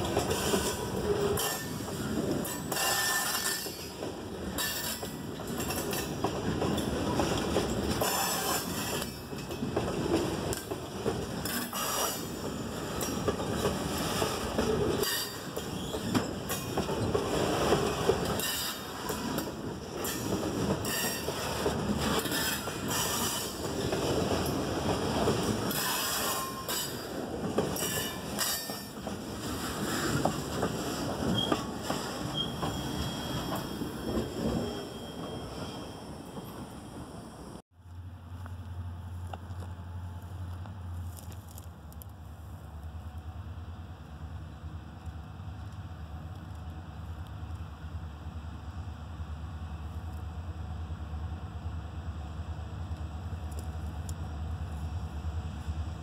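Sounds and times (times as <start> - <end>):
freight train wheels rumbling and clacking: 0.0 - 56.0.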